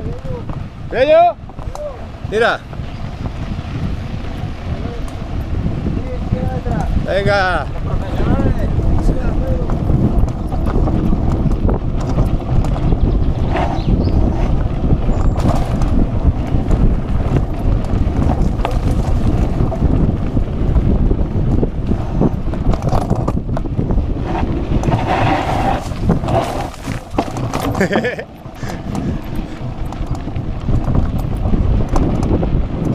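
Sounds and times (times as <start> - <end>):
bike rattling: 0.0 - 32.9
tyres clattering over dirt trail: 0.0 - 32.9
wind rushing over microphone: 0.0 - 32.9.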